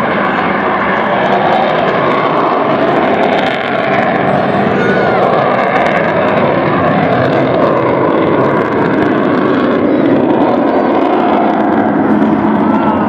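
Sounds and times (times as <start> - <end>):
jet aircraft flying overhead: 0.0 - 13.0.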